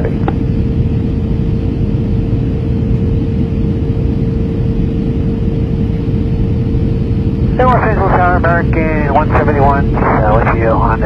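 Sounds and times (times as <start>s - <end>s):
airplane cabin engine rumble: 0.0s - 11.0s
constant hum: 0.0s - 11.0s.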